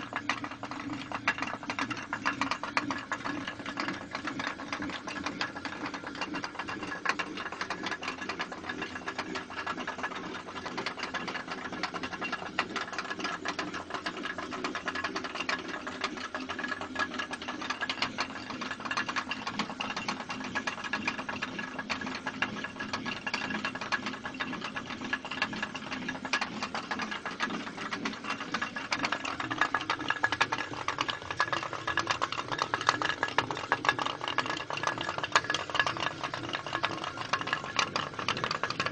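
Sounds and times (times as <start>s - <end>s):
water mill millstone rattling: 0.0s - 38.9s.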